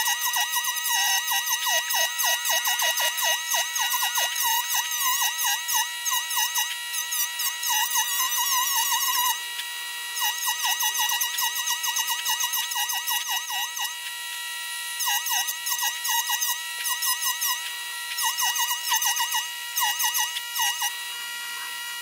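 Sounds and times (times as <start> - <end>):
bit grinding wood: 0.0 - 14.2, 14.8 - 22.0
rotary tool whining: 0.0 - 22.0.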